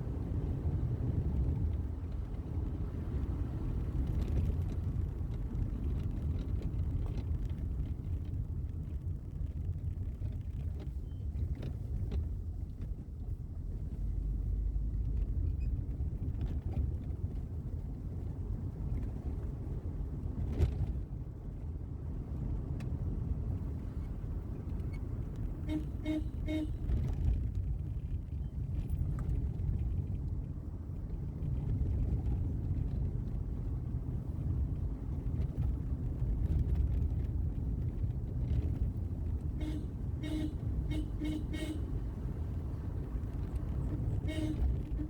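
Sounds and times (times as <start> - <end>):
car driving rumble: 0.0 - 45.0.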